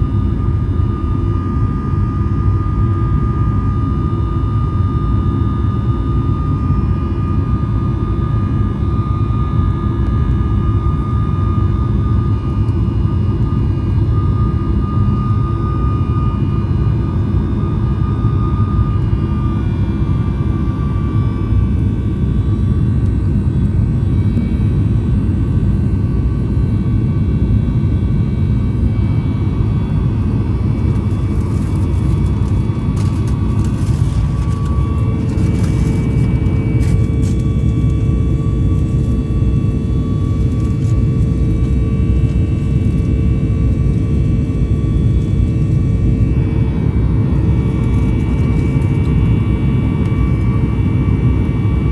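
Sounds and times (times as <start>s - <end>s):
jet engine cabin rumble: 0.0s - 51.9s
steady high whine: 0.0s - 51.9s.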